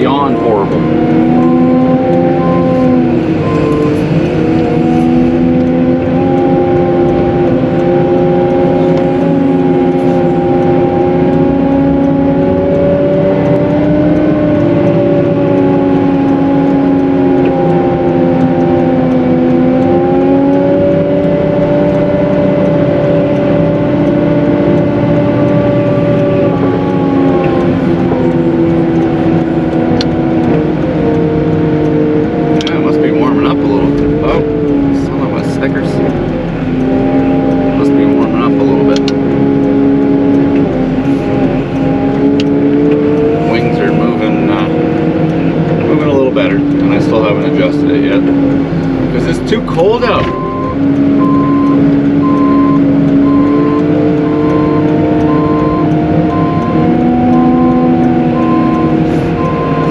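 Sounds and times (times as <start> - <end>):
wheel loader engine whining: 0.0 - 59.9.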